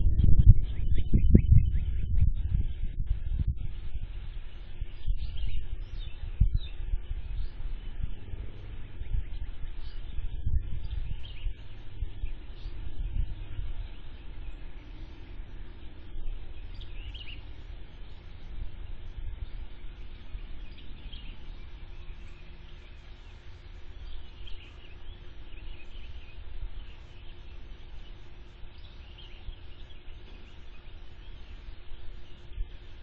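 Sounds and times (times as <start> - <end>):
birds chirping: 0.0 - 33.0
faint hum: 0.0 - 33.0
low rumble: 0.0 - 33.0.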